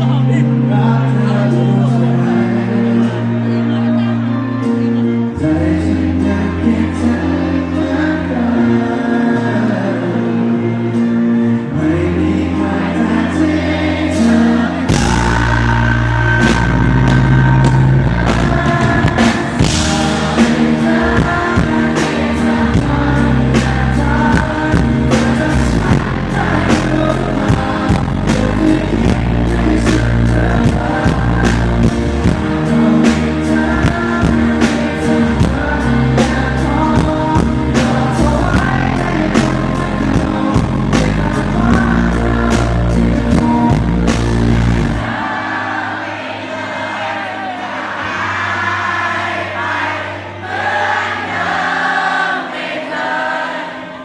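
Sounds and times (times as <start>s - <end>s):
pop-rock band playing: 0.0s - 46.0s
person singing: 0.0s - 54.0s.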